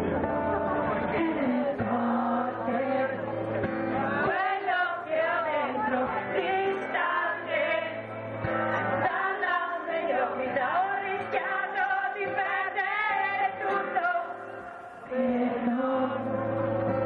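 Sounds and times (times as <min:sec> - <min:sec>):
guitar: 0:00.0 - 0:17.0
woman singing: 0:00.6 - 0:03.4, 0:04.2 - 0:08.2, 0:08.8 - 0:17.0.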